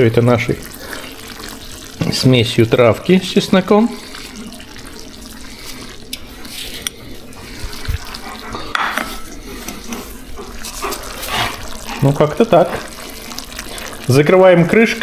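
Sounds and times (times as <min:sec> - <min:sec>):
stew bubbling in a pan: 0:00.0 - 0:15.0.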